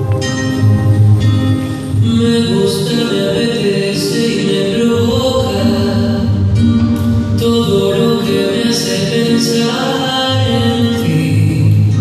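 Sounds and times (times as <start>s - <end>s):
slow rumba song: 0.0s - 12.0s
person singing: 1.8s - 12.0s.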